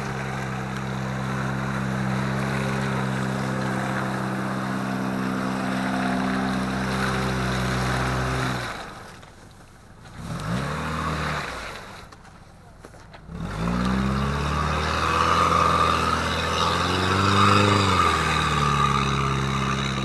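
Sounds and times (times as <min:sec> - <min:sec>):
engine revving up: 0:00.0 - 0:09.1, 0:10.1 - 0:12.1, 0:13.2 - 0:20.0
off-road engine running at high revs: 0:00.0 - 0:09.4, 0:10.0 - 0:20.0.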